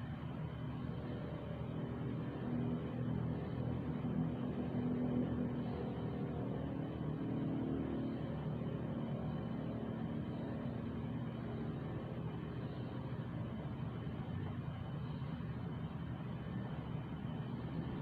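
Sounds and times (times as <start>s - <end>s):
low mechanical hum with whir: 0.0s - 18.0s.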